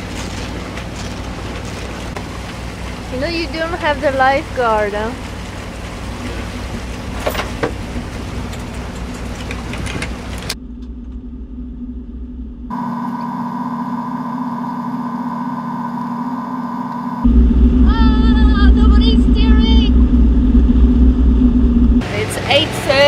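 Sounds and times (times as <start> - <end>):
boat engine running: 0.0 - 23.0
water noise: 0.0 - 23.0
wind: 0.0 - 23.0.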